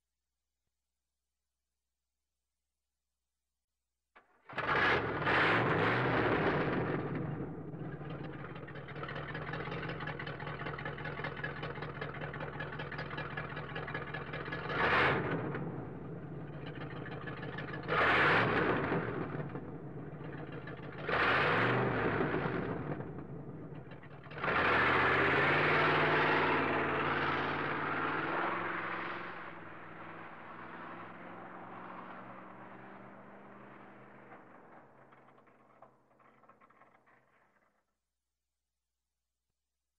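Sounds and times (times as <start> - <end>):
car engine revving: 4.6 - 37.4.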